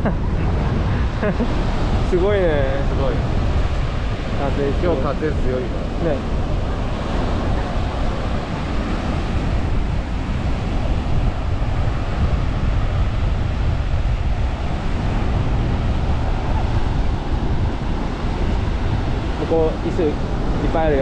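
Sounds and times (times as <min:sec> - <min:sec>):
surf washing on beach: 0:00.0 - 0:21.0
wind buffeting microphone: 0:00.0 - 0:21.0.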